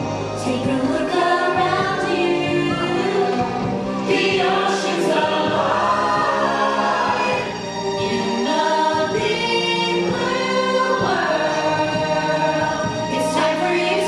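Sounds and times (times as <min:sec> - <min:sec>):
backing music: 0:00.0 - 0:14.0
voices singing together: 0:00.4 - 0:14.0.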